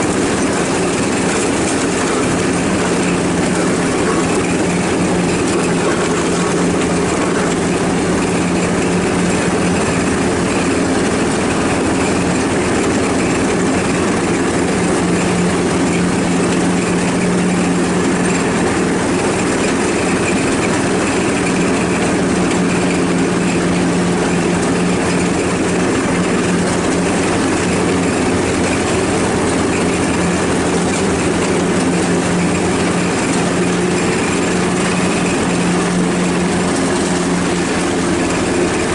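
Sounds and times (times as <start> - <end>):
ride-on lawnmower engine: 0.0 - 38.9.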